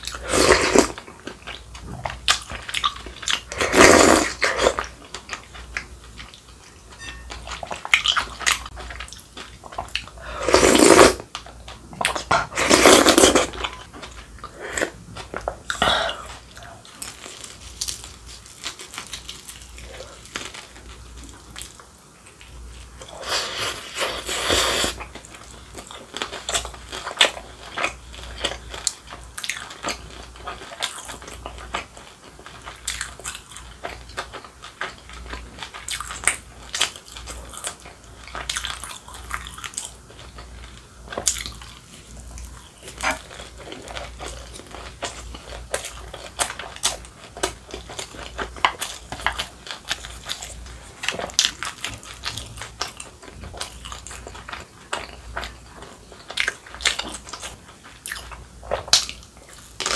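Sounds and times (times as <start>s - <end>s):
chewing and crunching fried food: 0.0s - 59.9s.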